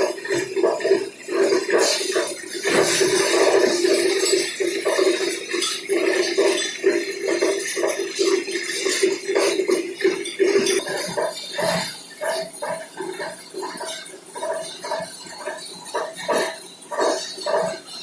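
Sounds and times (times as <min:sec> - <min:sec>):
metallic clinks and rattles: 0:00.0 - 0:18.0.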